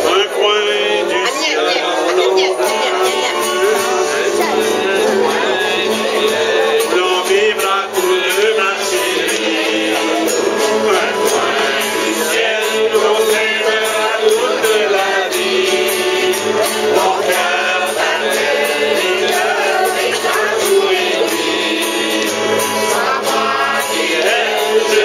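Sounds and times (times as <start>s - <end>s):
group of people singing: 0.0s - 25.0s
strummed acoustic guitars: 0.0s - 25.0s.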